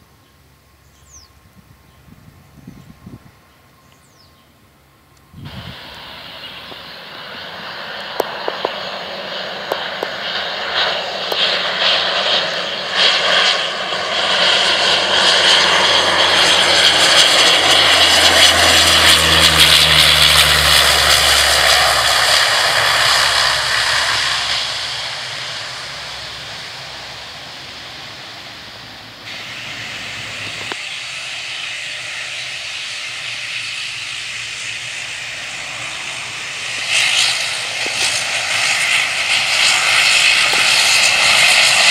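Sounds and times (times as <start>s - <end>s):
low propeller hum: 0.0s - 41.9s
turboprop airplane landing: 0.0s - 41.9s.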